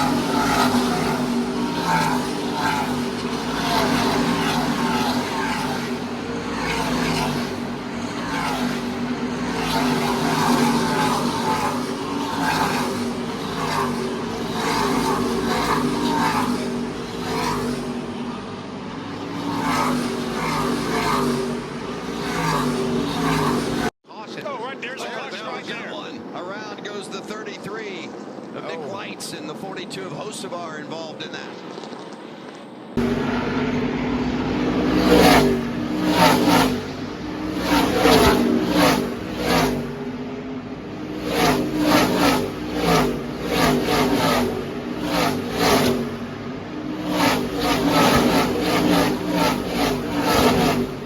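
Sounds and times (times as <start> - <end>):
race truck engines passing: 0.0 - 51.0.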